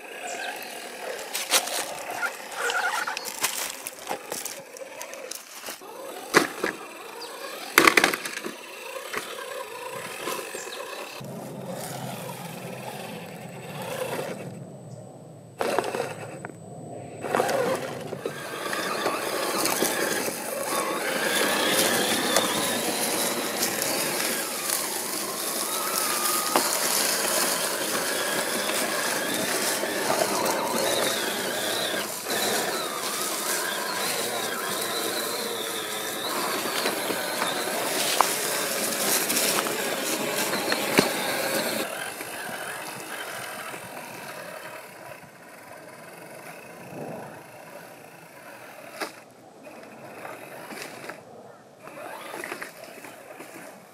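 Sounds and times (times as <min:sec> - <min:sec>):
rc car motor whine: 0:00.0 - 0:53.9.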